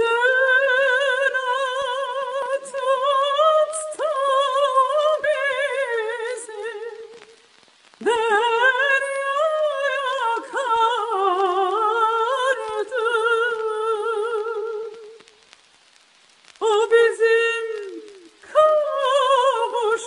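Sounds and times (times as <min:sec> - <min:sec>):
woman singing folk song operatically: 0:00.0 - 0:15.5, 0:16.6 - 0:20.0.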